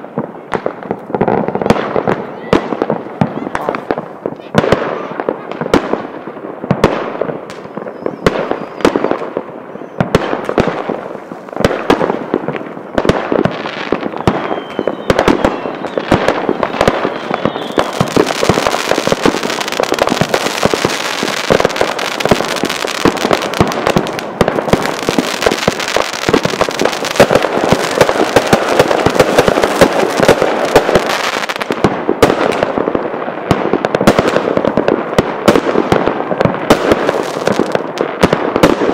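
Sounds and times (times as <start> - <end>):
fireworks banging: 0.0 - 38.9.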